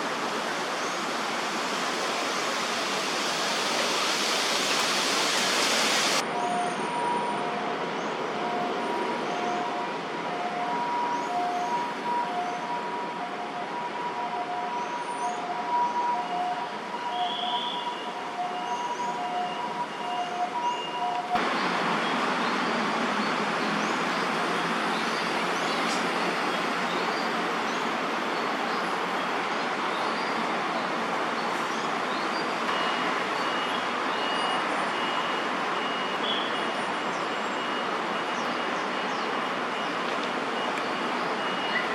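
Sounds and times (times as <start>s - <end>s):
distant traffic hum: 0.0s - 41.9s.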